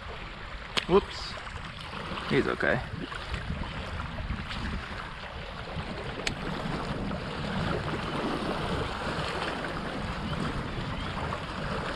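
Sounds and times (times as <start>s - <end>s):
small waves lapping on rocks: 0.0s - 11.9s
wind buffeting microphone: 0.9s - 11.9s.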